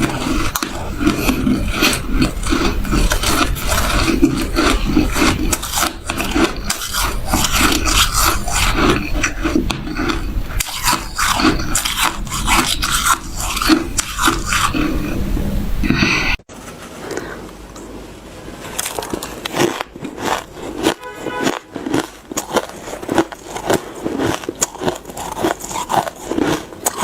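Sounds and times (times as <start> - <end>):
chewing crunchy ice: 0.0 - 16.4, 18.8 - 27.0.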